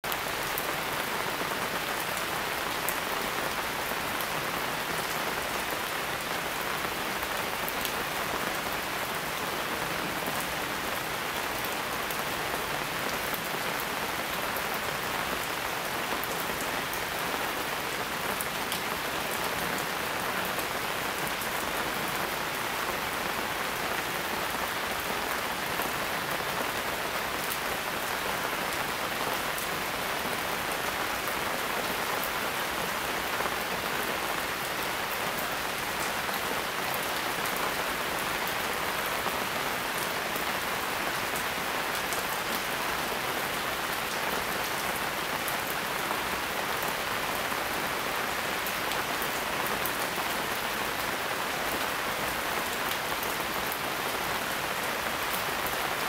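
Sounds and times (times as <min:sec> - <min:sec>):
rain on leaves: 0:00.0 - 0:56.0.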